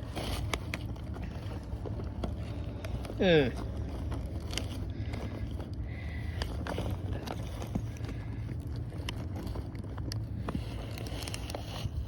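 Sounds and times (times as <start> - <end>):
small objects rummaged through: 0.0 - 12.0
steady low rumble: 0.0 - 12.0.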